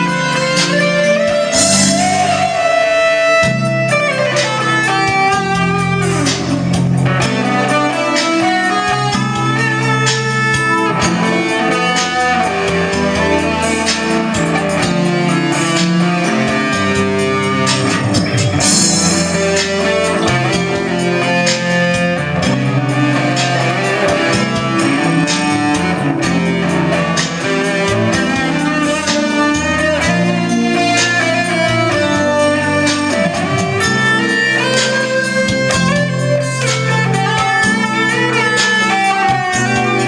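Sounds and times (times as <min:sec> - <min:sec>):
guitar: 0:00.0 - 0:40.0
bass line: 0:03.4 - 0:40.0
bowed strings: 0:04.0 - 0:40.0.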